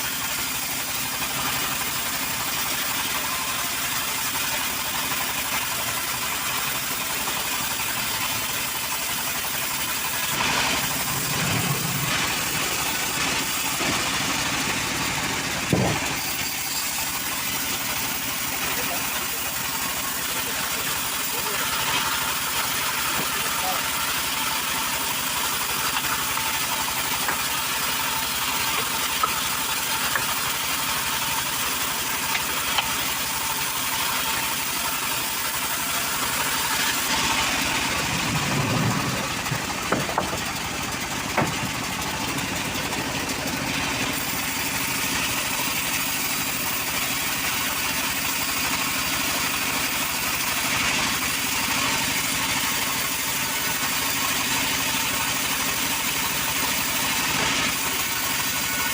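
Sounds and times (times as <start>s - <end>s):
wood-cutting machine engine running: 0.0s - 58.9s.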